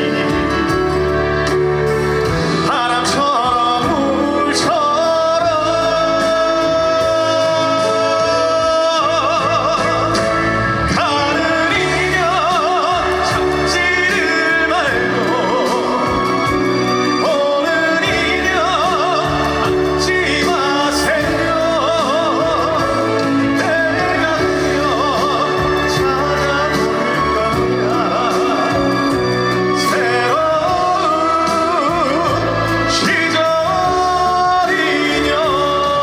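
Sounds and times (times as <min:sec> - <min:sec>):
live band playing: 0:00.0 - 0:36.0
person singing with vibrato: 0:00.0 - 0:36.0.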